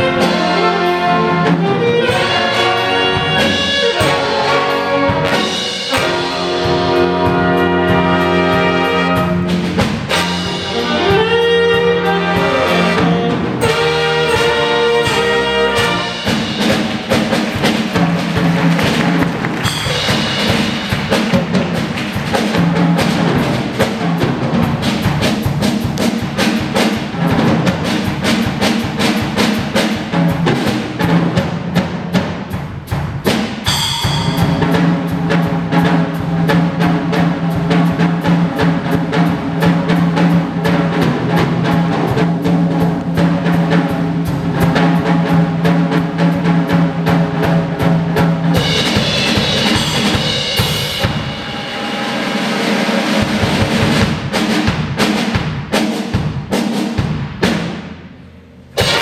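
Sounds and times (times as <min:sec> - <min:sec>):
drum kit and congas: 0:00.0 - 0:59.0.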